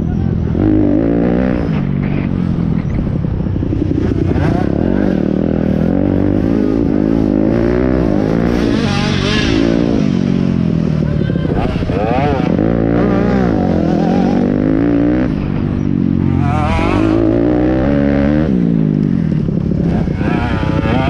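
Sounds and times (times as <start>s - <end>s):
pit bike engines revving: 0.0s - 21.0s.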